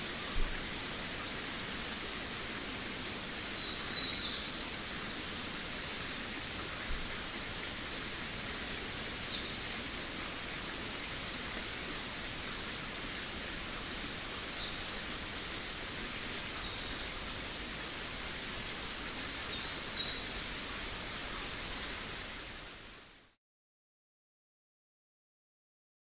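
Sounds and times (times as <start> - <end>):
steady background hiss: 0.0 - 23.4.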